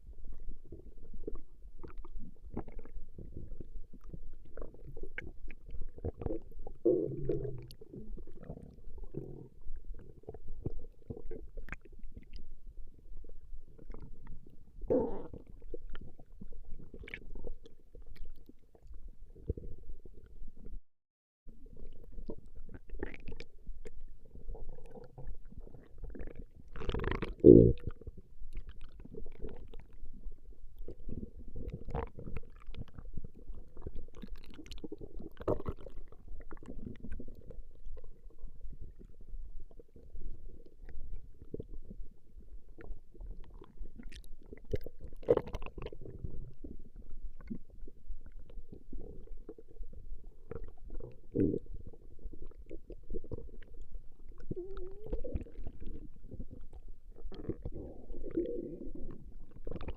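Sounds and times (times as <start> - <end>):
stomach growling: 0.0 - 20.8, 21.5 - 59.9.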